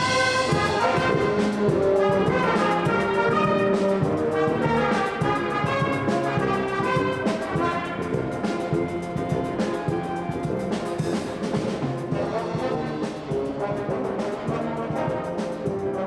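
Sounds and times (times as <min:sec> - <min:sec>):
brass music playing: 0:00.0 - 0:16.0.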